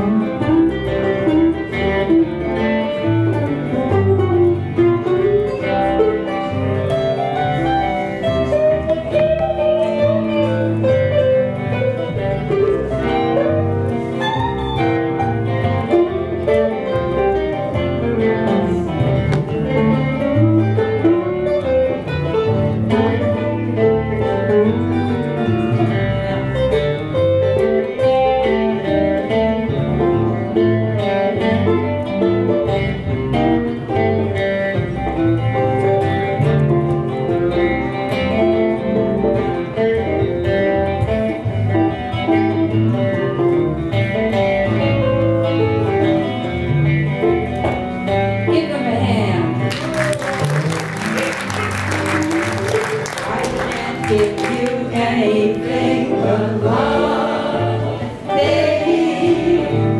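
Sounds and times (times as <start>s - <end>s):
band playing guitars and bass: 0.0s - 59.9s.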